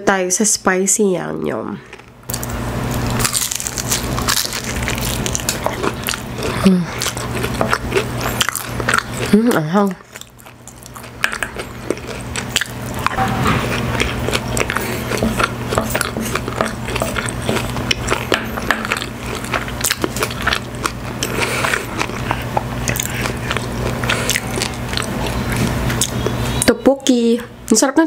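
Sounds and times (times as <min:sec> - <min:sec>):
person chewing: 0:01.8 - 0:26.7.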